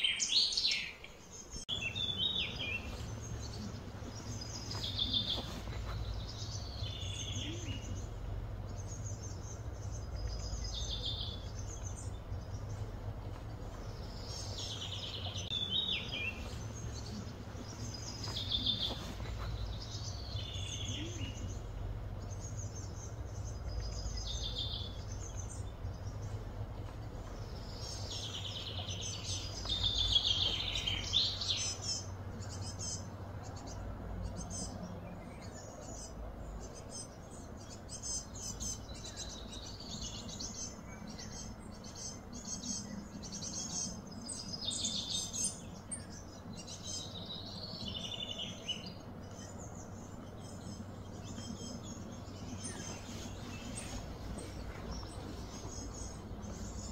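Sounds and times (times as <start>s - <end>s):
low background hum: 0.0s - 56.9s.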